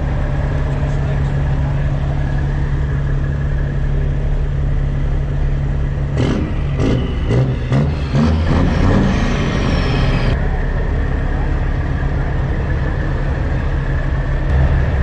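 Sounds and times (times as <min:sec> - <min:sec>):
diesel truck engine idling: 0:00.0 - 0:15.0
uneven loud sounds: 0:00.0 - 0:15.0.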